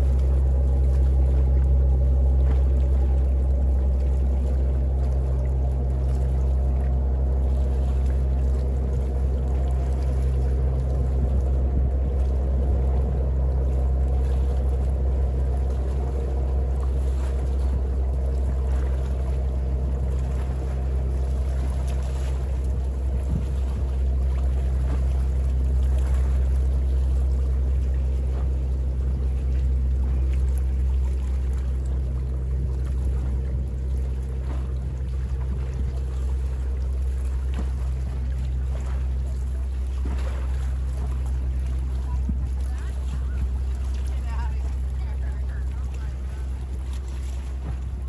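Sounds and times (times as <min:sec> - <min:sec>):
boat engine droning: 0:00.0 - 0:48.0
small waves lapping: 0:00.0 - 0:48.0.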